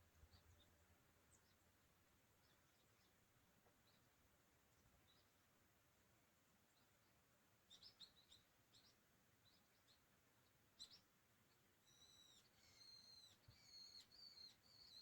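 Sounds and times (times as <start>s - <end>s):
small birds chirping: 0.0s - 5.5s, 6.6s - 15.0s
faint outdoor ambience: 0.0s - 15.0s.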